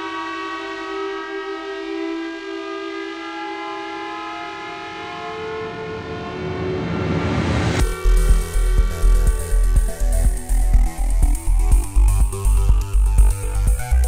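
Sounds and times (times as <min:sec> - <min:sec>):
sustained musical drone: 0:00.0 - 0:14.0.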